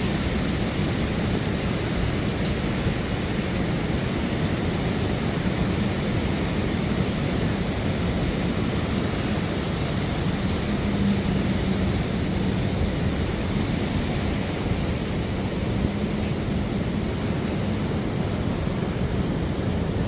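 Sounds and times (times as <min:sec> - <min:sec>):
ocean surf: 0:00.0 - 0:20.0
wind: 0:00.0 - 0:20.0.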